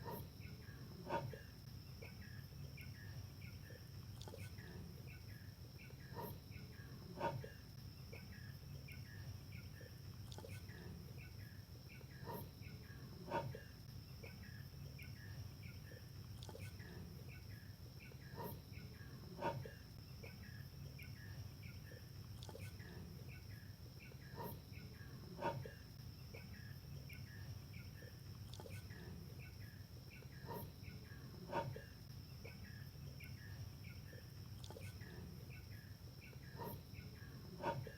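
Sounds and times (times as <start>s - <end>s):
crickets chirping: 0.0s - 37.9s
high insect drone: 0.0s - 37.9s.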